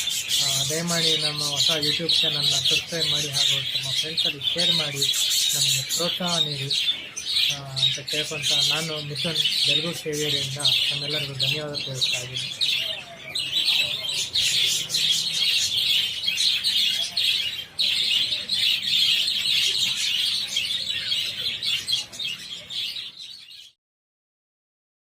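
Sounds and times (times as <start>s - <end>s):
flock of budgerigars chattering: 0.0s - 23.8s.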